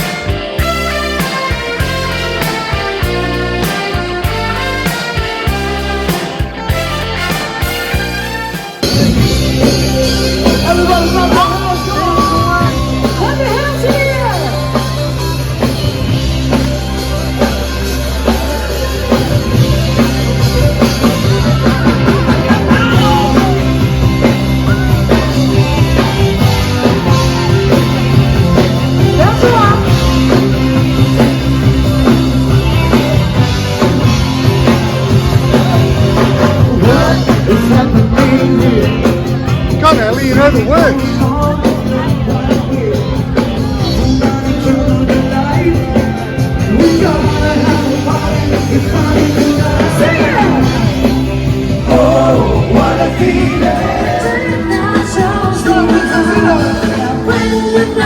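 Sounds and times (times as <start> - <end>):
rock song with singing: 0.0 - 58.0.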